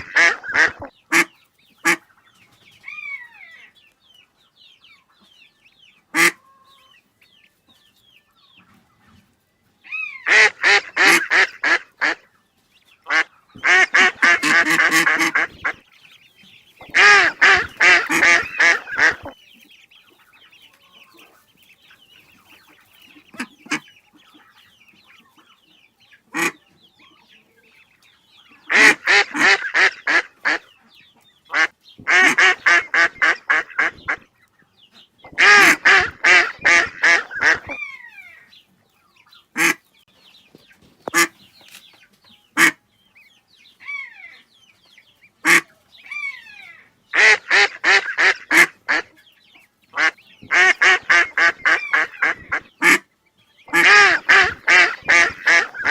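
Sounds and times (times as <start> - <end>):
ducks quacking: 0.0 - 3.8, 4.6 - 7.4, 9.8 - 43.0, 43.7 - 55.9.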